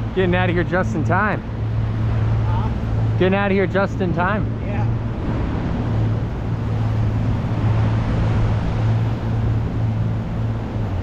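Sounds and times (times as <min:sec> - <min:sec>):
engine humming: 0:00.0 - 0:11.0
rushing noise: 0:00.0 - 0:11.0.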